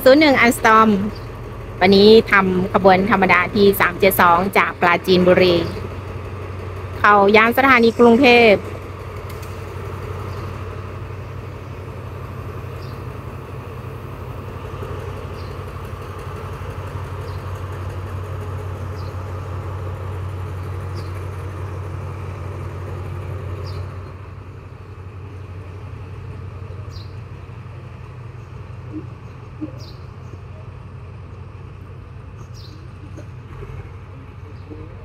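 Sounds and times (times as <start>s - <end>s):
diesel locomotive engine drone: 0.0s - 35.0s.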